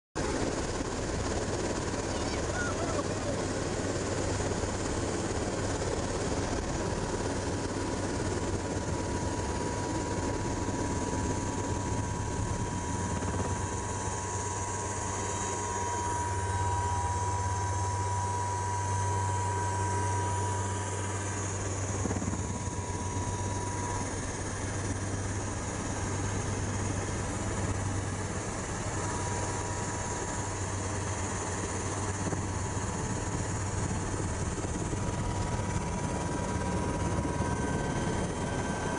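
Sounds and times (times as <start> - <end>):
helicopter rotor drone: 0.2 - 38.9
turbine whine: 0.2 - 38.9.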